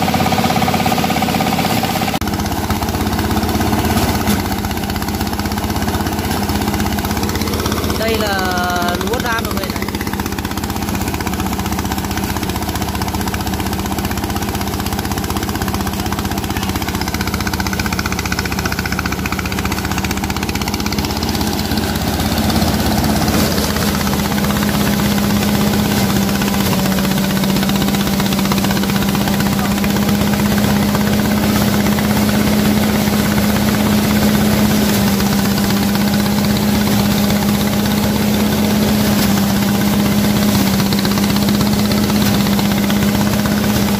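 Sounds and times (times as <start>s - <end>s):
threshing machine engine hum: 0.0s - 43.9s
thresher shaking: 3.0s - 43.9s.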